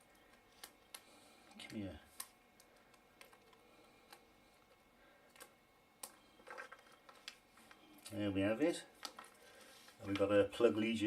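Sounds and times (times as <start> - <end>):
faint clicks of plastic packaging: 0.0 - 8.2, 9.0 - 10.4
soft rustle of packaging: 0.0 - 11.0.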